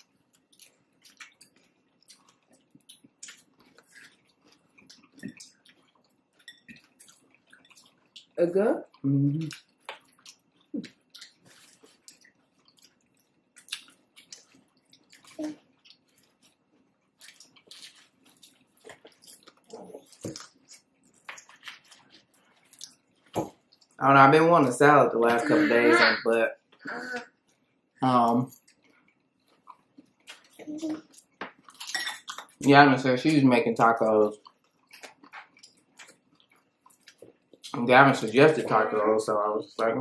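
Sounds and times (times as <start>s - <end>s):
person chewing food: 0.0s - 24.0s, 26.6s - 32.7s, 34.2s - 39.2s.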